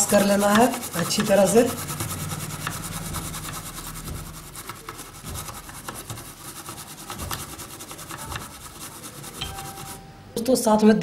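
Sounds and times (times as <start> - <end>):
brush scrubbing: 0.0 - 10.1.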